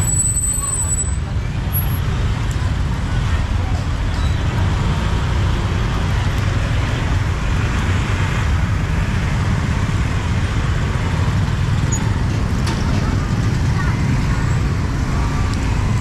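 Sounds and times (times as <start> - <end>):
scooters and cars passing: 0.0 - 16.0.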